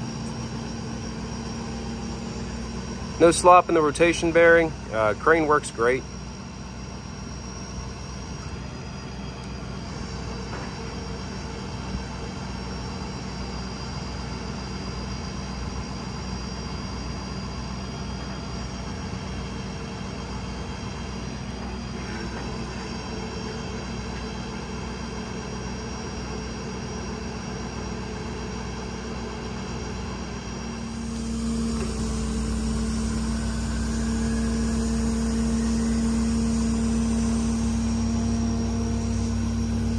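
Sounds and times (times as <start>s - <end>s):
crane hydraulics: 0.0s - 39.9s
diesel engine running: 0.0s - 39.9s.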